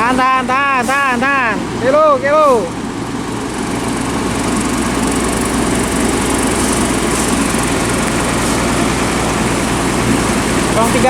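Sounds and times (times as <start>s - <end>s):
large diesel engine droning: 0.0s - 11.0s.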